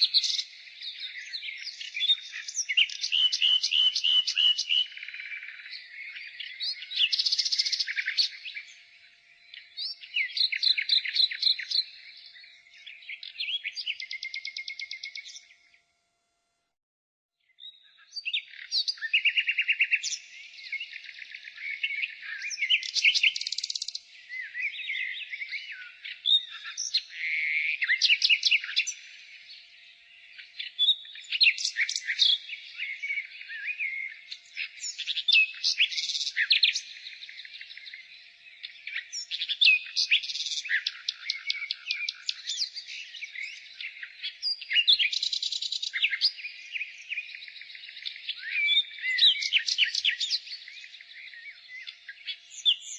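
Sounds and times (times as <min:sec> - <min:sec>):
nightingale singing: 0:00.0 - 0:15.8, 0:17.5 - 0:52.9.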